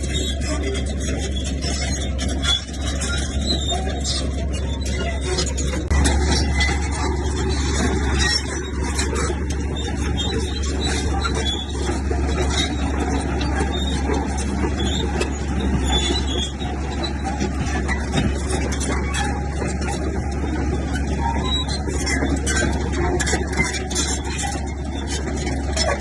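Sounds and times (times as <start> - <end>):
diesel engine drone: 0.0 - 26.0
machinery rattling and clanking: 0.0 - 26.0
sharp squeaks and clinks: 0.0 - 26.0.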